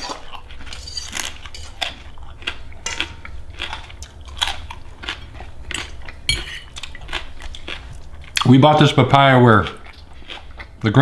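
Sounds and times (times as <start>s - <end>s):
wet crunchy chewing: 0.0s - 8.9s, 9.6s - 11.0s.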